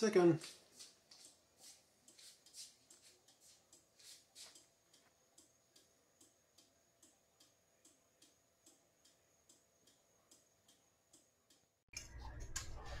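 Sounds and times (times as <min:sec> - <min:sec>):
clock ticking: 0:02.0 - 0:12.7.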